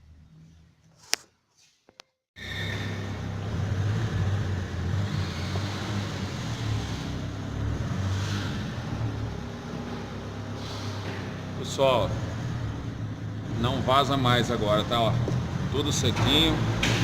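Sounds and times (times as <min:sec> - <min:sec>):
car engine idling: 0:02.4 - 0:17.0.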